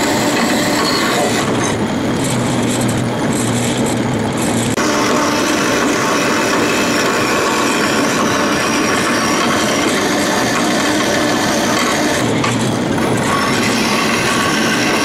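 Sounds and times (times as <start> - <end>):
bandsaw rasping through metal: 0.0 - 15.0.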